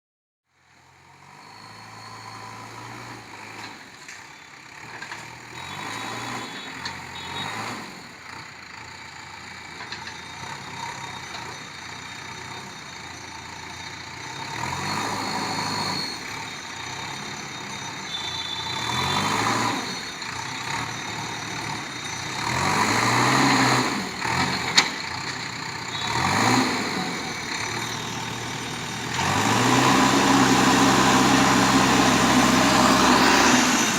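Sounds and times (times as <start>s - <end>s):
diesel engine revving: 1.0s - 33.9s.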